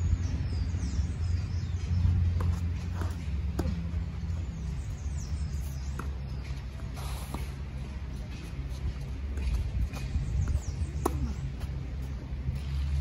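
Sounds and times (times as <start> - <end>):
birds chirping: 0.0 - 13.0
low steady rumble: 0.0 - 13.0.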